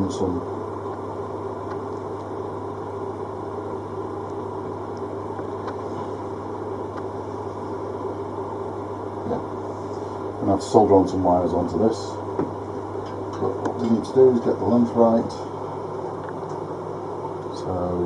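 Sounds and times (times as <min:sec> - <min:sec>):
mechanical hum with hiss: 0:00.0 - 0:18.0.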